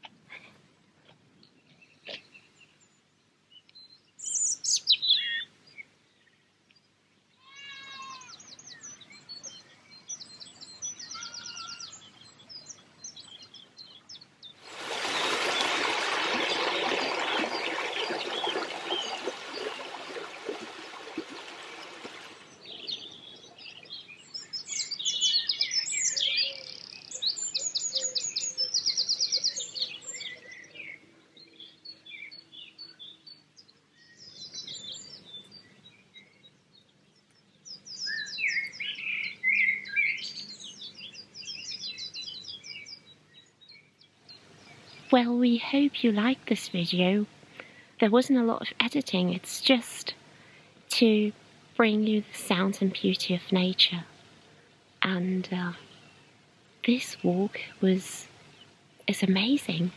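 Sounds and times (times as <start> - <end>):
birds singing and trilling: 1.4 - 54.1, 54.8 - 59.9.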